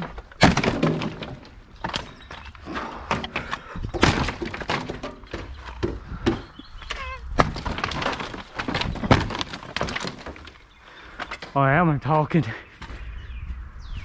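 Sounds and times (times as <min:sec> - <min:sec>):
wooden boards cracking and splintering: 0:00.0 - 0:11.8.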